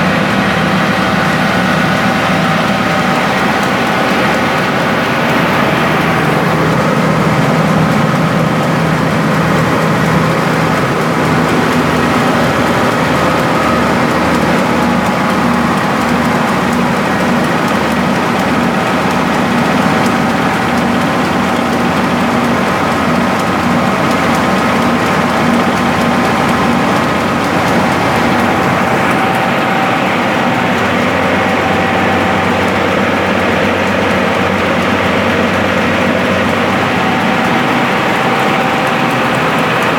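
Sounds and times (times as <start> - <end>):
milling machine droning: 0.0 - 39.9.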